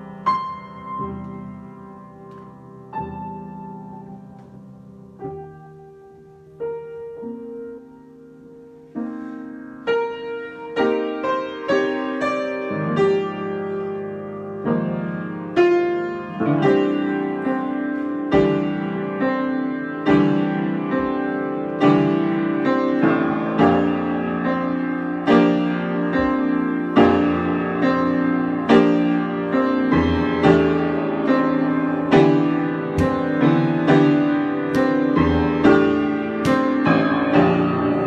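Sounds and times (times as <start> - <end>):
solo piano: 0.0 - 38.0.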